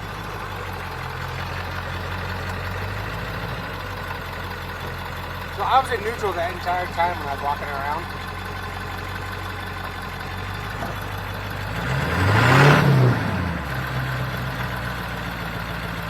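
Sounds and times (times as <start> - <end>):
truck engine idling and revving: 0.0 - 16.0.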